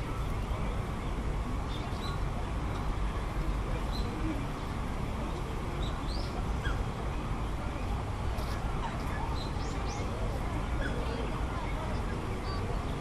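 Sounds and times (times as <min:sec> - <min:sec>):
low rumble of city noise: 0:00.0 - 0:13.0.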